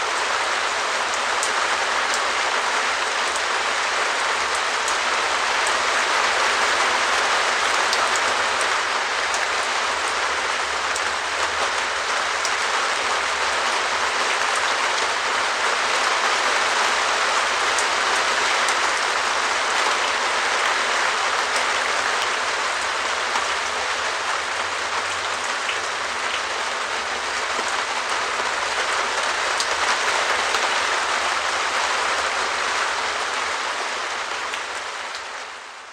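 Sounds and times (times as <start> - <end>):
rain drumming on plastic roof: 0.0 - 35.9.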